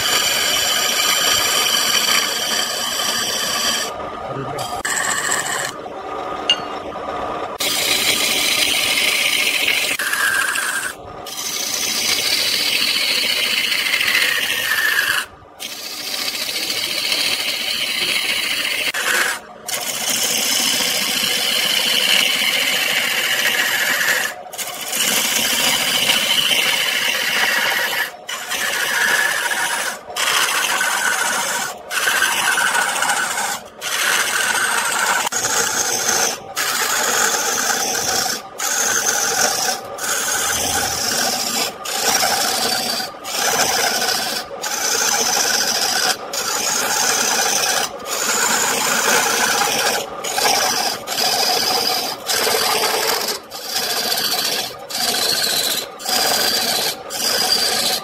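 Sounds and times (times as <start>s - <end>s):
gouge scraping spinning wood: 0.0s - 5.9s, 6.5s - 58.0s.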